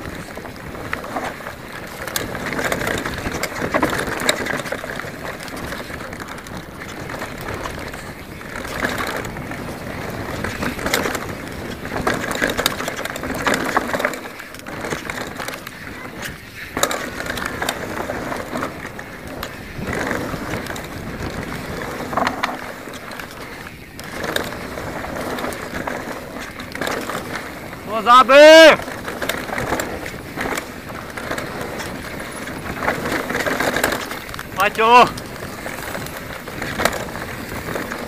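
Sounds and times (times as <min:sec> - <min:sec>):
bike rattling and clattering: 0:00.0 - 0:38.0
bike tyres rolling on dirt: 0:00.0 - 0:38.0.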